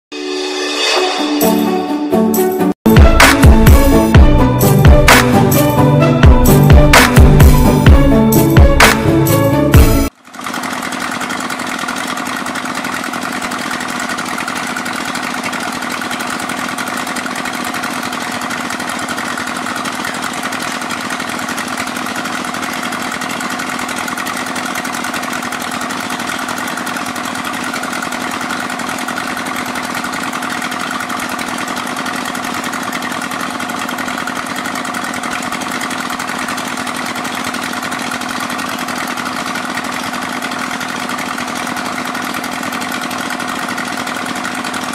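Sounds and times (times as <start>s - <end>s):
water pump engine running: 2.8s - 44.9s.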